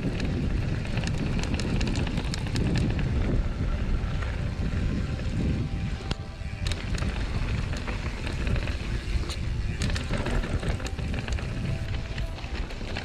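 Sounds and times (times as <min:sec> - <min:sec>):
bike clicks and rattles: 0:00.0 - 0:13.0
tyres rolling on gravel: 0:00.0 - 0:13.0
wind rushing over microphone: 0:00.0 - 0:13.0.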